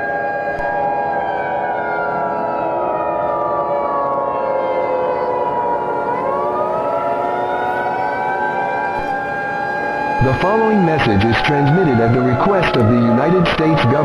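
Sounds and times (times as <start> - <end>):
siren with layered tones: 0.0 - 14.0.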